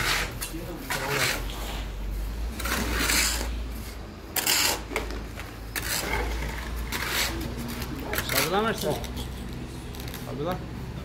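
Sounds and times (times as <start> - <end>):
trowel scraping mortar: 0.0 - 9.4.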